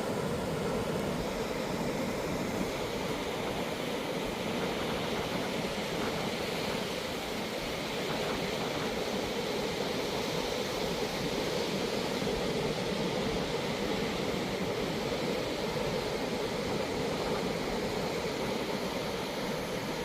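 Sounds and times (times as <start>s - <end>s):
surf breaking on a beach: 0.0s - 20.0s.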